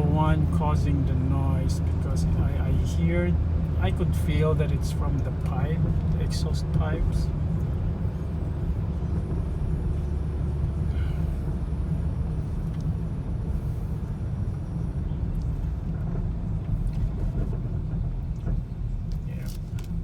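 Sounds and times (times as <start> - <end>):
car engine low rumble: 0.0 - 20.0
road noise inside car: 0.0 - 20.0.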